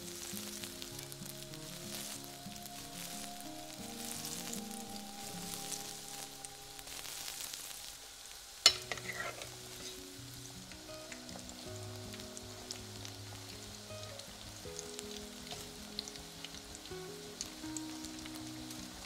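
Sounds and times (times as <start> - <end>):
deep-frying oil sizzle: 0.0 - 19.0.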